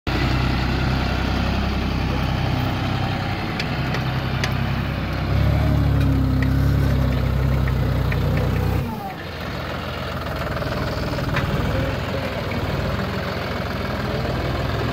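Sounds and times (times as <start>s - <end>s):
tractor diesel engine running: 0.1s - 14.9s.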